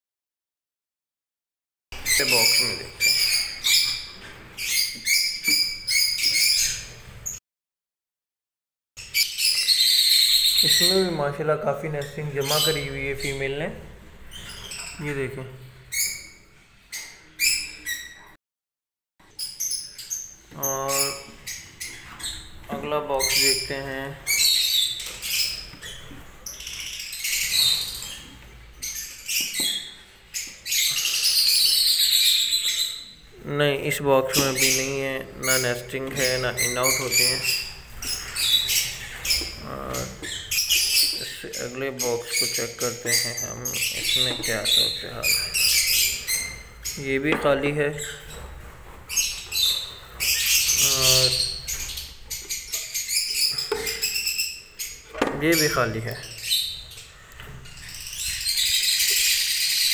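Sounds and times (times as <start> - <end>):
lovebirds squawking and chirping: 2.0 - 7.4, 9.0 - 18.4, 19.3 - 59.9.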